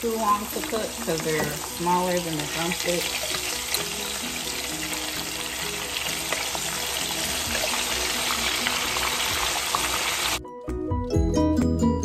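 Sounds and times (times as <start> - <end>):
chicken frying in hot oil: 0.0 - 10.4.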